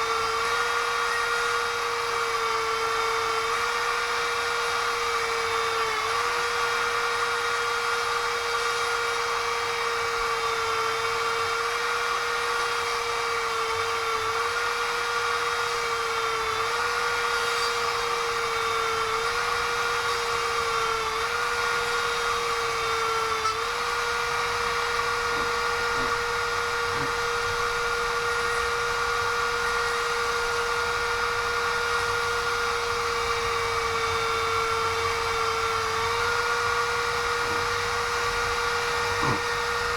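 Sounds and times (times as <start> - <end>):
electric drill whining: 0.0 - 39.9.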